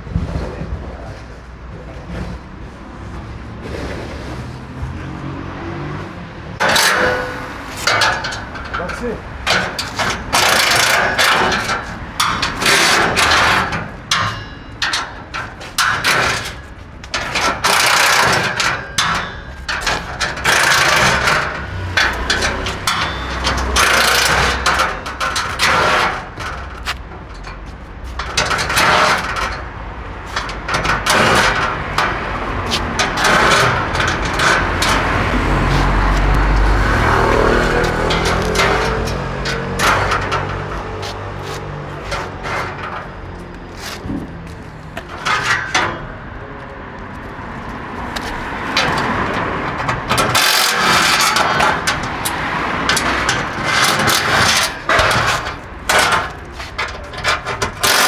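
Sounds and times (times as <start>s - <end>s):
sharp metal knocks: 6.6s - 44.3s, 44.9s - 46.4s, 48.2s - 58.0s.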